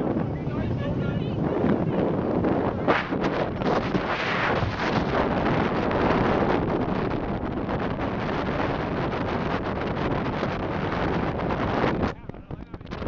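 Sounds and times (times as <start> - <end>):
boat running rush: 0.0 - 13.0
wind buffeting microphone: 0.0 - 13.0.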